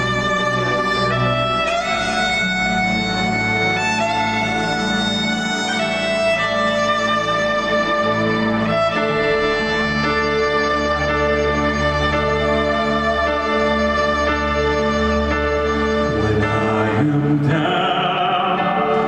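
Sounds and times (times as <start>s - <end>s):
amplified violin long notes: 0.0s - 19.0s
steady low drone: 0.0s - 19.0s.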